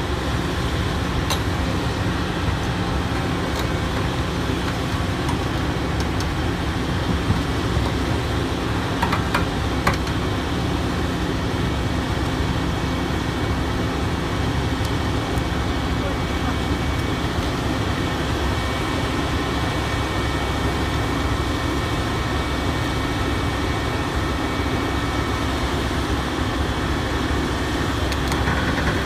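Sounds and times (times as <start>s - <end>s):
heavy machinery engine humming: 0.0s - 29.0s.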